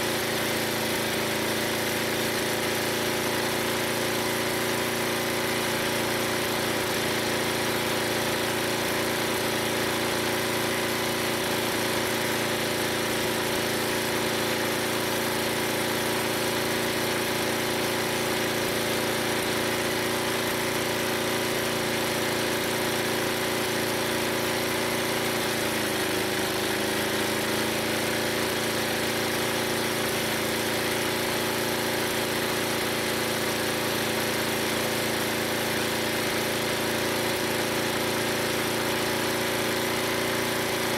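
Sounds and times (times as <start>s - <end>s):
gas engine running: 0.0s - 40.9s.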